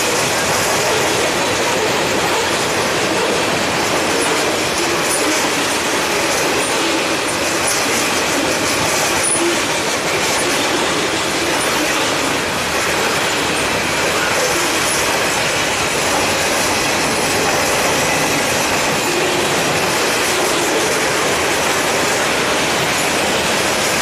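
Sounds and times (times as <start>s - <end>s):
railroad cars rolling on rails: 0.0s - 24.0s.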